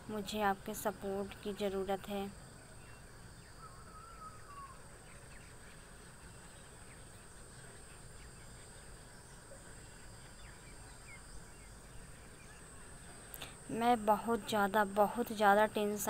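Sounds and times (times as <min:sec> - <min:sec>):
insect chirp: 0:00.0 - 0:16.0
insect drone: 0:00.0 - 0:16.0.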